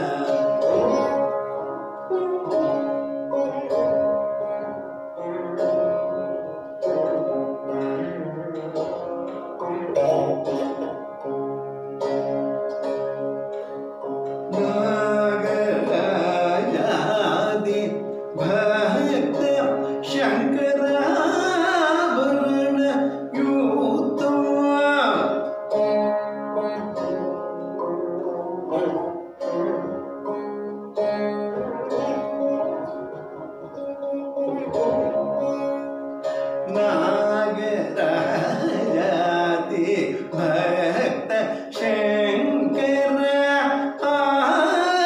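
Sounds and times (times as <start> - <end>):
plucked veena with bending pitches: 0.0 - 45.0.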